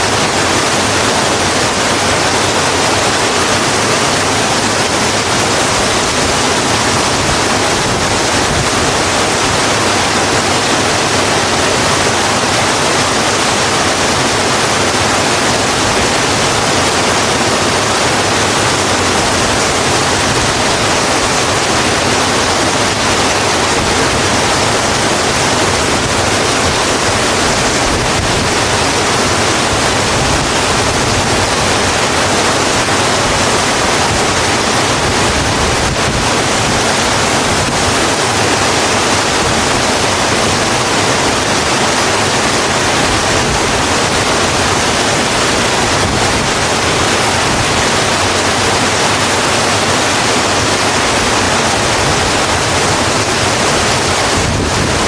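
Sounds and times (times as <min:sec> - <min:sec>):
heavy rain on a road: 0:00.0 - 0:55.0.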